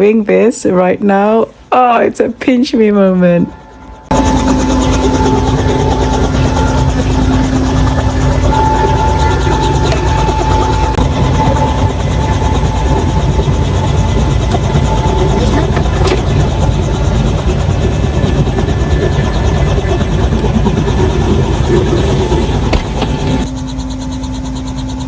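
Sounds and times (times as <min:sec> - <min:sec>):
helicopter rumble: 0:00.0 - 0:25.0.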